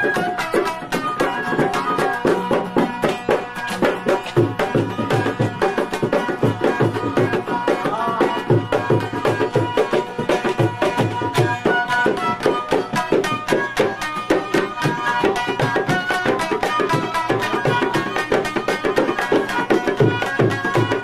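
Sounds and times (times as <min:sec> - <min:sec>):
hand drum fast rhythm: 0:00.0 - 0:21.0
stringed instrument melody: 0:00.0 - 0:21.0.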